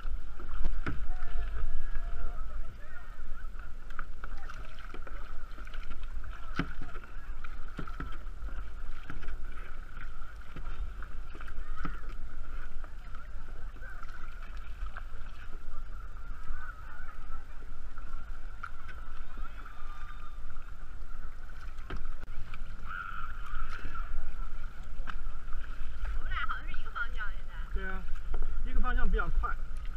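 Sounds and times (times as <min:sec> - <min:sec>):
paddle splashing in water: 0:00.0 - 0:29.9
wind on microphone: 0:00.0 - 0:29.9.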